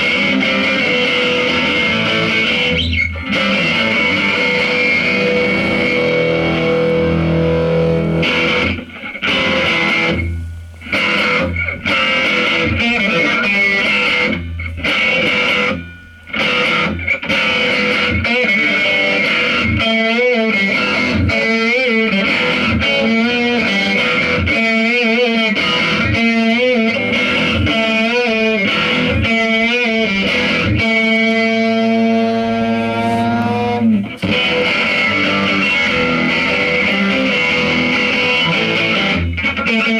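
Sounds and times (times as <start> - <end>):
distorted electric guitar drone: 0.0 - 39.9.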